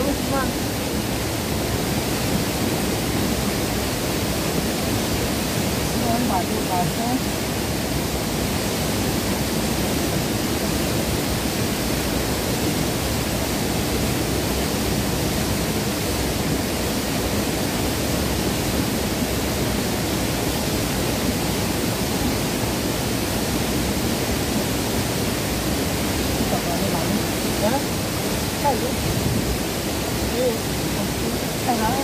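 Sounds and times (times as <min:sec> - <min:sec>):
river water rushing over rocks: 0:00.0 - 0:32.0.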